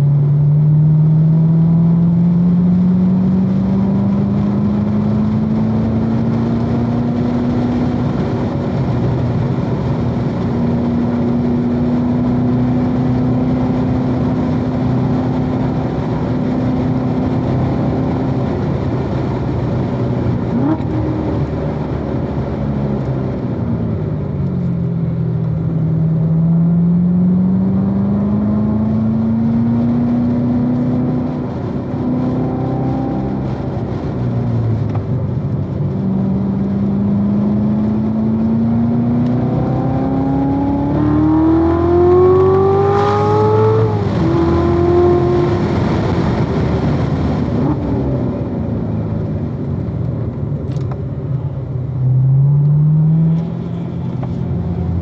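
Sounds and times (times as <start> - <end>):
car engine revving at speed: 0.0 - 55.0.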